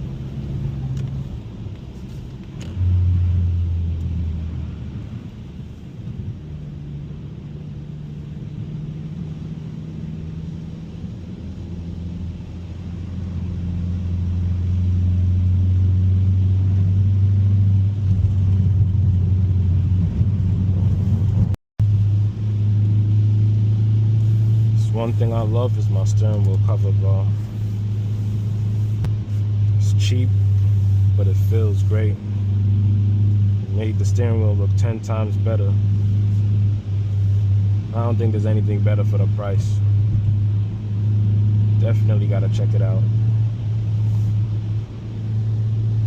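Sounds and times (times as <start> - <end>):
car engine droning: 0.0 - 46.0
tyre road noise: 0.0 - 46.0.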